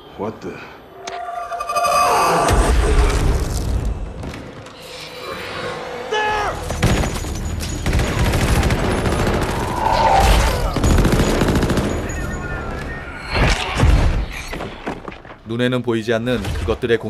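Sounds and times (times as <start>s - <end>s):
film score music: 0.0s - 15.6s.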